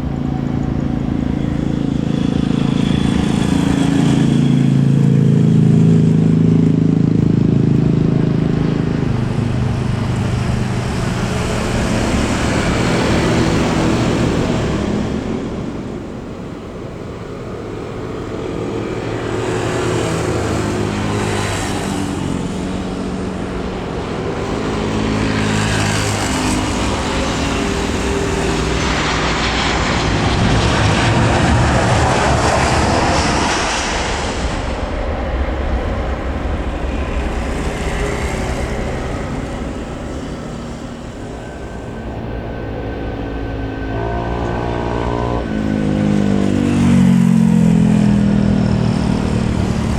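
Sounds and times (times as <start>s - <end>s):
airliner engines rumbling: 0.0s - 49.9s.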